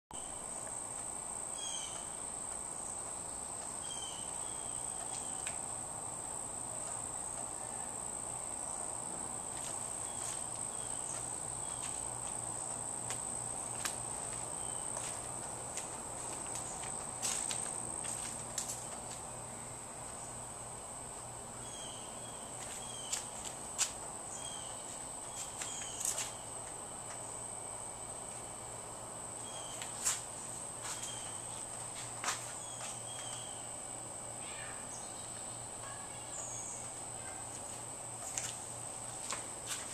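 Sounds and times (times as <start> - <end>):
insects droning: 0.2 - 39.9.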